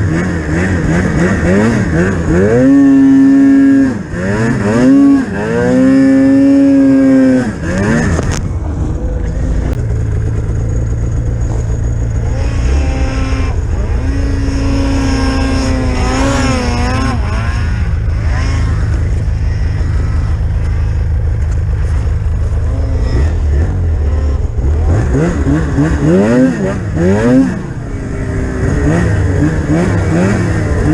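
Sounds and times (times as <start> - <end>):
snowmobile engine revving: 0.0 - 30.9.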